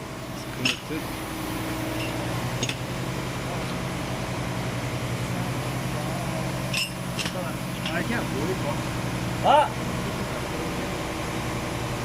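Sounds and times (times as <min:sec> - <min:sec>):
machine low mechanical hum: 0:00.0 - 0:12.0.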